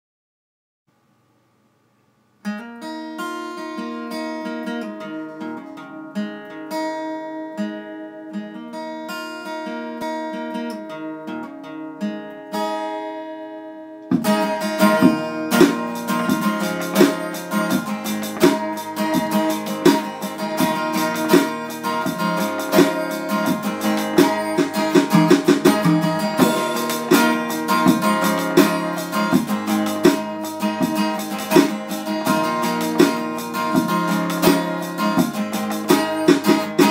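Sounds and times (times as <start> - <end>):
acoustic guitar music: 2.4 - 36.9.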